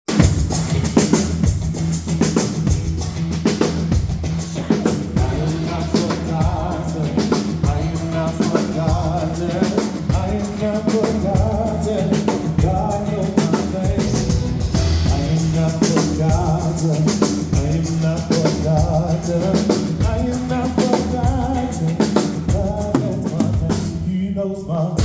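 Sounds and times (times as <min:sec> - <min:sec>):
drum kit beat: 0:00.0 - 0:24.3
gospel band playing: 0:00.1 - 0:25.0
voices singing: 0:04.3 - 0:25.0.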